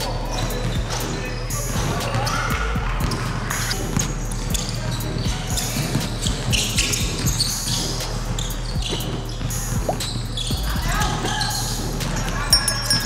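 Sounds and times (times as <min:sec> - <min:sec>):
players' voices: 0:00.0 - 0:13.0.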